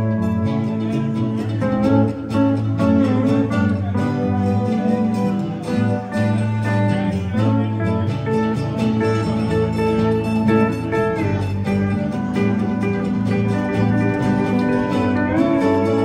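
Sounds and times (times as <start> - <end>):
bass line: 0.0 - 16.0
plucked guitars: 0.0 - 16.0
regular beat: 0.0 - 16.0.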